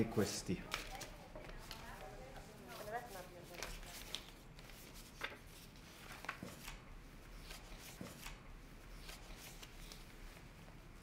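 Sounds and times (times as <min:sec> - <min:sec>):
paper rustling: 0:00.7 - 0:11.0.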